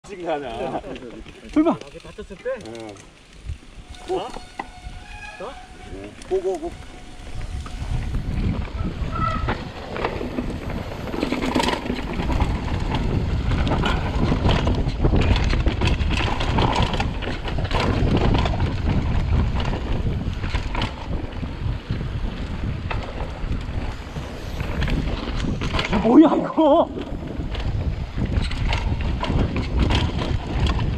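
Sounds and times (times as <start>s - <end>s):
bike rattling and knocking: 0.1s - 3.6s, 7.8s - 30.9s
bike tyre rumble: 0.1s - 30.9s
wind buffeting microphone: 3.3s - 30.9s.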